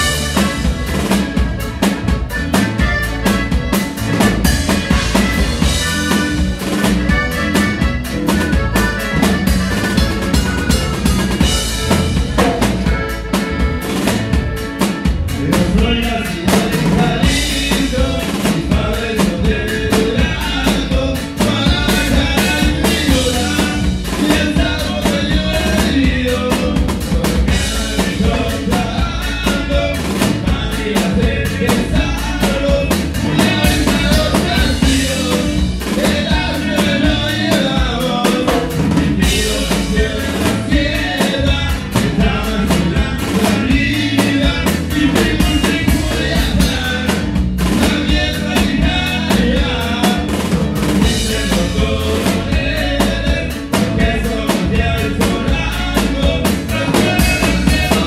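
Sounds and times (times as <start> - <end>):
drum kit beat: 0.0 - 58.0
live band music: 0.0 - 58.0.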